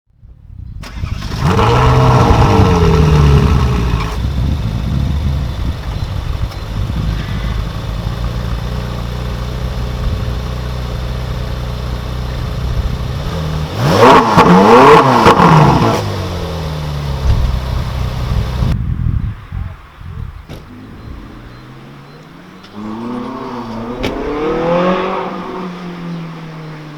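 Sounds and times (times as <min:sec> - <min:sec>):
sports car engine revving: 0:00.8 - 0:18.8, 0:20.6 - 0:26.9.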